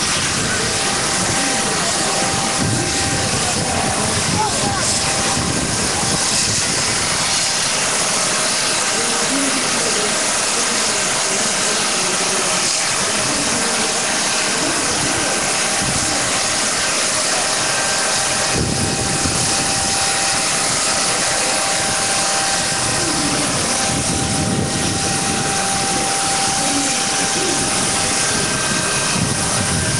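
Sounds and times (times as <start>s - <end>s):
loud engine drone with whine: 0.0s - 29.9s
faint crowd voices: 0.2s - 6.9s, 8.4s - 29.9s.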